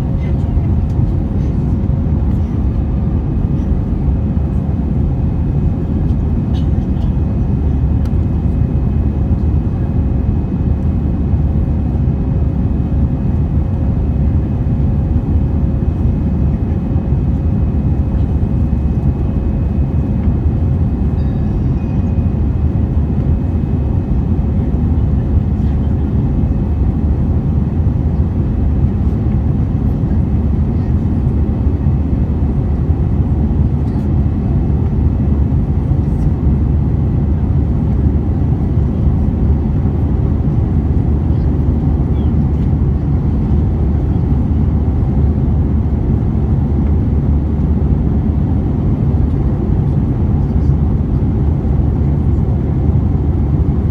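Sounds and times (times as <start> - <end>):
jet engine cabin rumble: 0.0 - 53.9.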